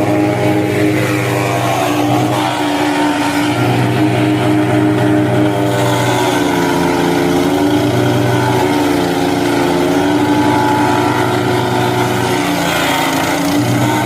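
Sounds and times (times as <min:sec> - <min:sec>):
wood chipper engine running: 0:00.0 - 0:14.0.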